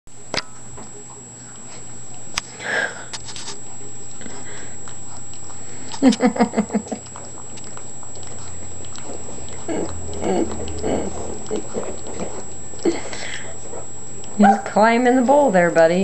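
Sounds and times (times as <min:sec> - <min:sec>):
puppy chewing wet food: 0:00.5 - 0:16.0.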